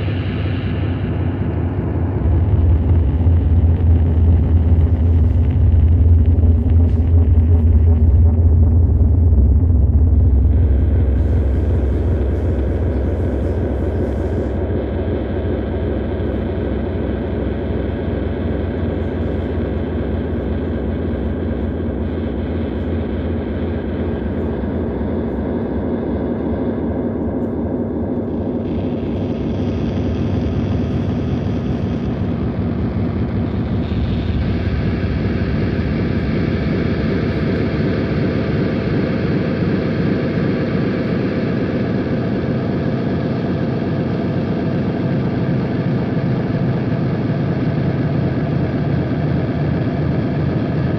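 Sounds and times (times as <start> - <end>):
rumbling bass drone: 0.0 - 50.9.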